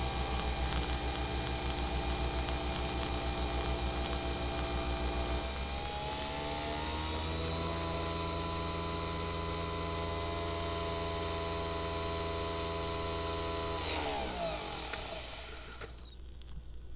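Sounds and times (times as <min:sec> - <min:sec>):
coffee maker motor humming: 0:00.0 - 0:16.1.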